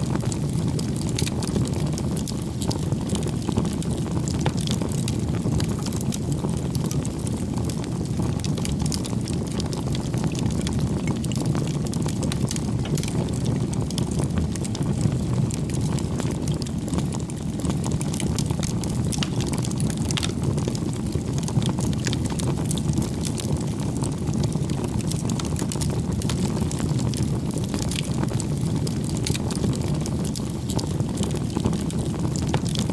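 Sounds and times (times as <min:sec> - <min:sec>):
burning wood crackling and popping: 0:00.0 - 0:32.9
campfire flames rumbling: 0:00.0 - 0:32.9.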